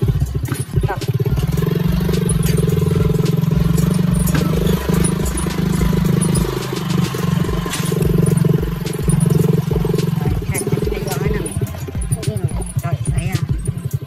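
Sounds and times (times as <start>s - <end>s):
engine pulsing drone: 0.0s - 14.0s.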